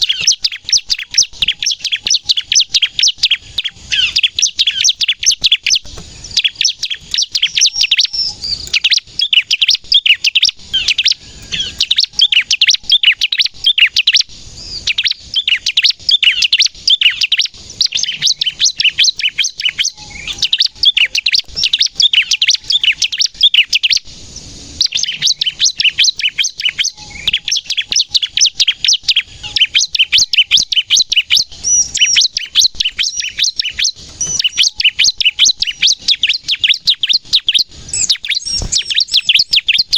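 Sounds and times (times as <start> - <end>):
bird high-pitched chirping song: 0.0 - 39.9.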